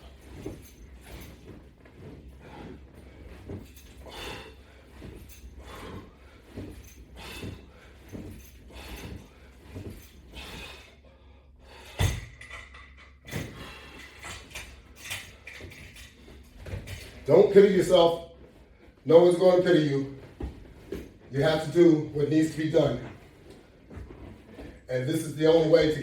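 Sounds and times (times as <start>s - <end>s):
exercise rig movement sounds: 0.0s - 26.0s.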